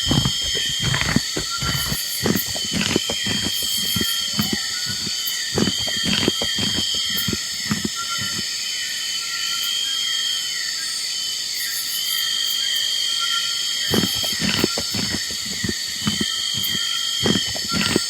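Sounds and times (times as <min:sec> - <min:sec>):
insect chorus buzzing and chirping: 0:00.0 - 0:18.0.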